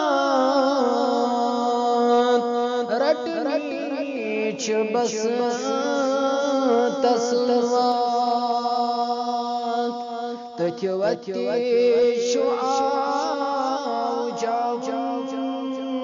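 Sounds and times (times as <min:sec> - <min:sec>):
man singing slow melody: 0:00.0 - 0:16.0.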